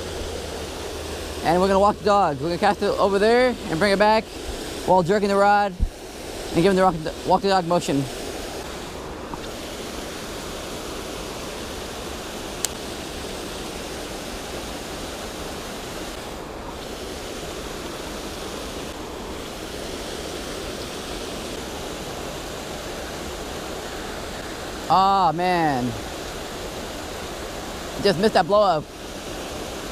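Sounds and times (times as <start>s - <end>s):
flowing creek water: 0.0s - 29.9s.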